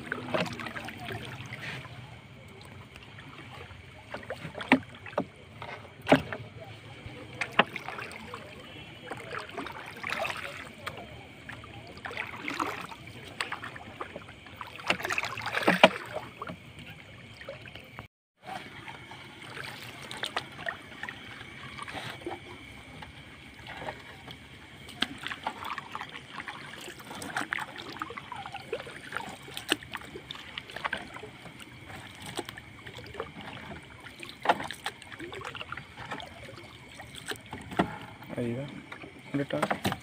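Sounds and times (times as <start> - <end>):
water splashing and dripping: 0.0 - 40.0.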